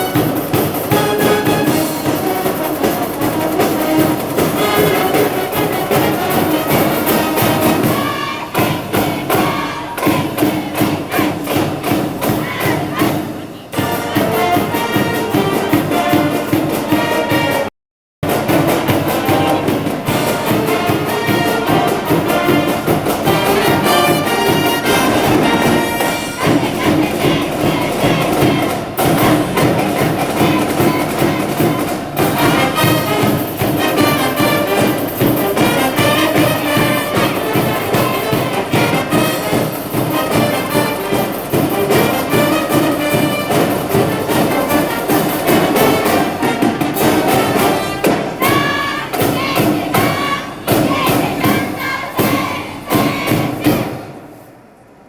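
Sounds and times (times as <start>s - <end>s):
steady drum beat: 0.0s - 54.0s
brass band playing cheering song: 0.0s - 54.2s.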